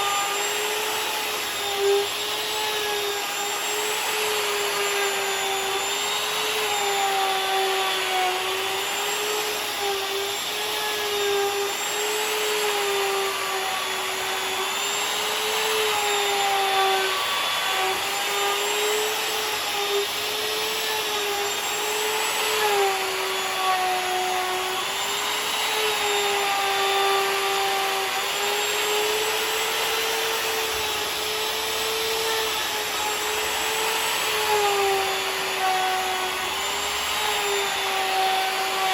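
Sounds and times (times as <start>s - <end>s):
wood router whining: 0.0s - 38.9s.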